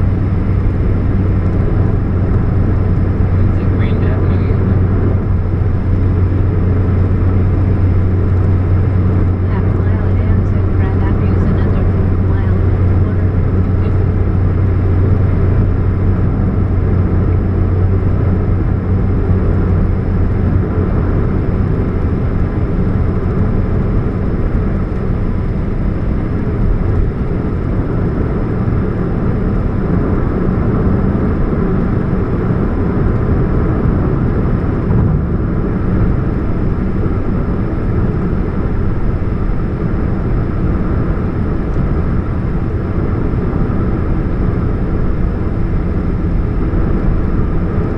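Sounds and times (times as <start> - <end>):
car engine low hum: 0.0 - 47.9.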